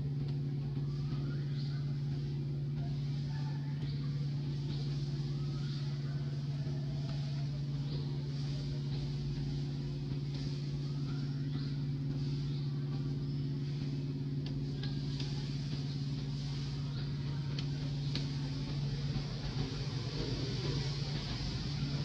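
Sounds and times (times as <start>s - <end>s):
motor droning: 0.0s - 22.0s.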